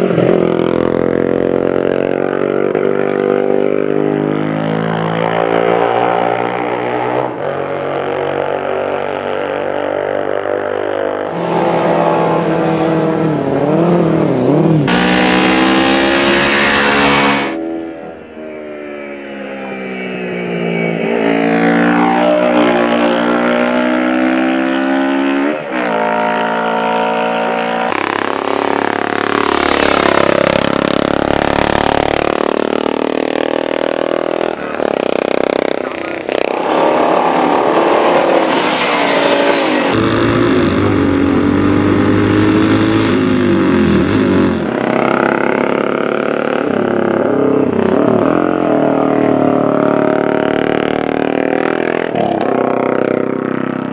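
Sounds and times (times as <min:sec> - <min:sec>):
racing motorcycle engines revving: 0:00.0 - 0:53.9.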